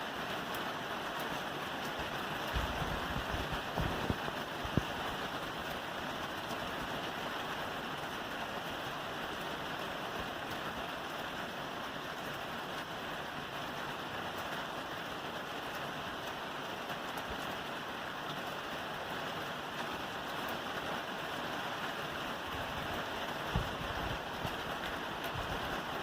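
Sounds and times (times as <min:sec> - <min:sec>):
rain falling on a roof: 0:00.0 - 0:26.0.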